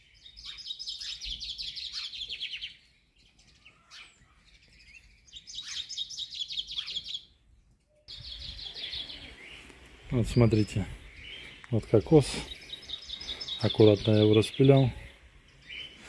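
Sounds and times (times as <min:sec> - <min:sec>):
chaffinch singing: 0:00.0 - 0:16.0.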